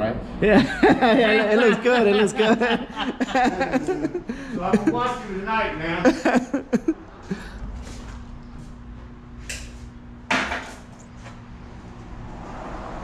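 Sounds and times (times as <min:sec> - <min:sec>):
faint hum: 0:00.0 - 0:12.4.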